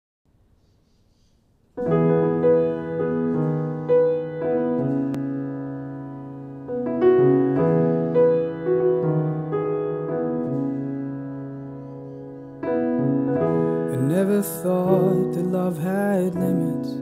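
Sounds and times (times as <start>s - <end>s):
piano playing slow chords: 1.8s - 17.0s.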